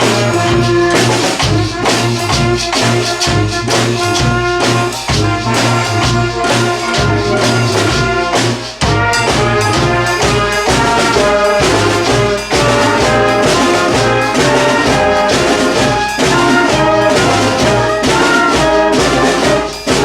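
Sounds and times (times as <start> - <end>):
brass band playing: 0.0 - 20.0
steady drum beat: 0.0 - 20.0.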